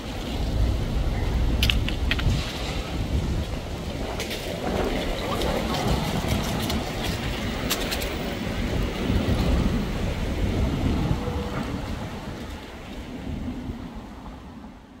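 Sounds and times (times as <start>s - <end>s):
street traffic rumbling: 0.0s - 15.0s.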